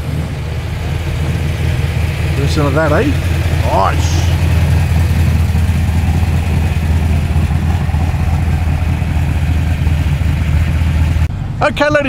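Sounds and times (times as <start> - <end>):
car engine rumbling at low revs: 0.0 - 12.0.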